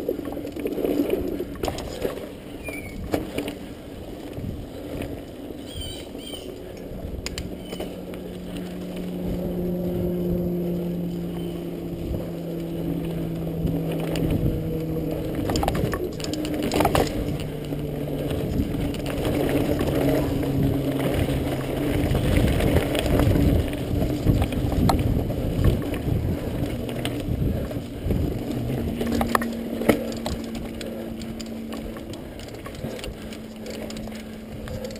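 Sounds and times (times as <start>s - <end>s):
bike knocking and rattling: 0.0s - 5.3s, 11.2s - 34.9s
bike tyres rumbling over dirt: 0.0s - 34.9s
steady buzzing tone: 0.0s - 34.9s.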